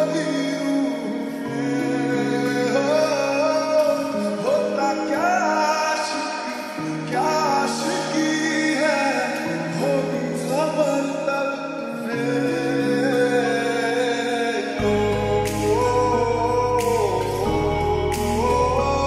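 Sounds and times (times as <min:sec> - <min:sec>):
slow lo-fi love song: 0:00.0 - 0:19.0.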